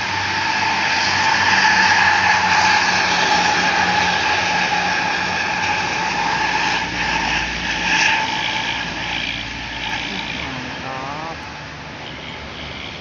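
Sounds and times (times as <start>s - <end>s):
bus passing with high whine: 0.0s - 13.0s.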